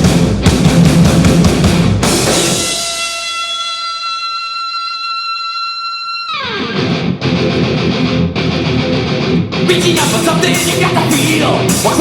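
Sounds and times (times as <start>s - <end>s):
heavy metal band: 0.0s - 4.2s, 6.4s - 12.0s
distorted electric guitar note sliding: 2.0s - 12.0s.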